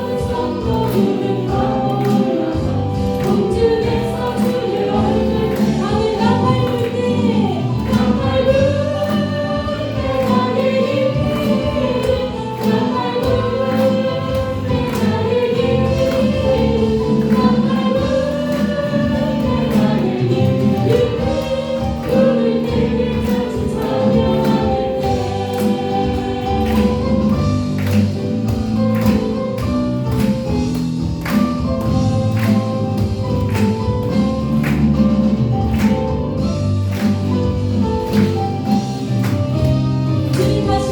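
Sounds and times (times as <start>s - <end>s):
band accompaniment: 0.0s - 40.9s
steady drum beat: 0.0s - 40.9s
voices singing together: 0.0s - 40.9s.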